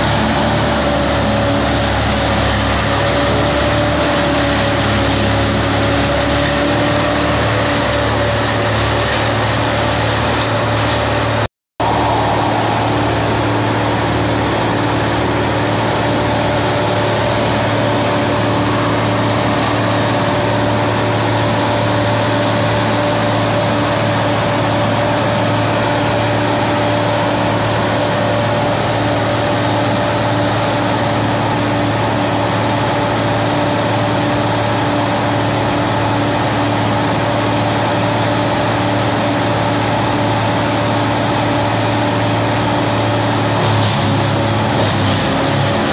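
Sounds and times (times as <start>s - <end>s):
wood chipper engine running: 0.0s - 45.9s.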